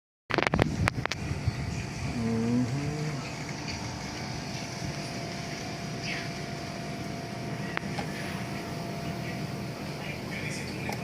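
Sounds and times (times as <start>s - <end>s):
air conditioner hum: 0.3s - 11.0s.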